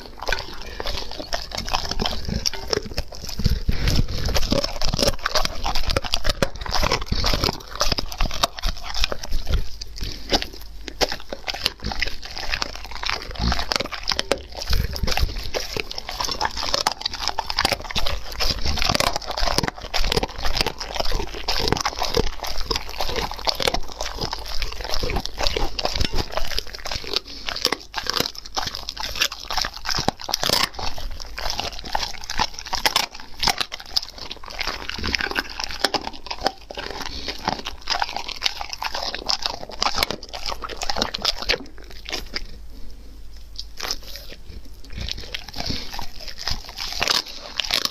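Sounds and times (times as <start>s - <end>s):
dog chewing and crunching meat: 0.0s - 47.9s.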